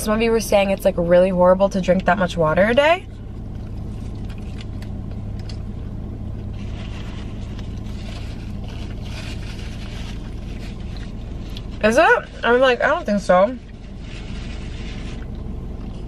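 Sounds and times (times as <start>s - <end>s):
car engine idling hum: 0.0s - 16.0s.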